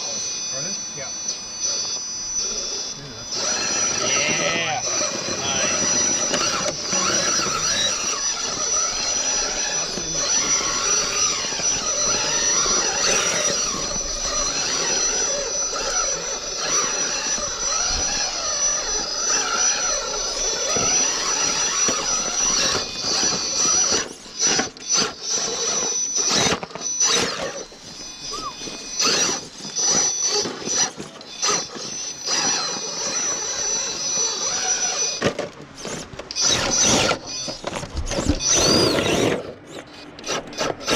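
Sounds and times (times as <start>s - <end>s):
rc car motor whining: 0.0s - 40.9s.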